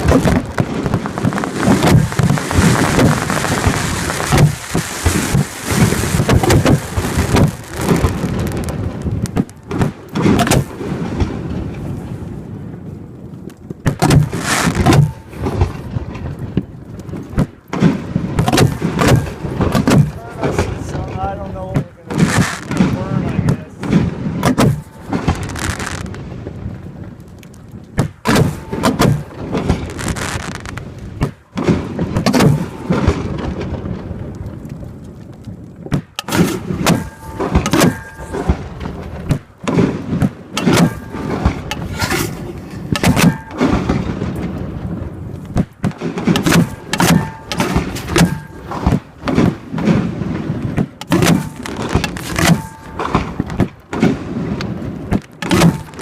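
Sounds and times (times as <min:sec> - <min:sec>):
firework shells firing with thuds: 0:00.0 - 0:11.9, 0:13.8 - 0:26.8, 0:27.6 - 0:34.2, 0:35.8 - 0:56.0
firework bursts booming: 0:00.0 - 0:13.1, 0:13.8 - 0:56.0.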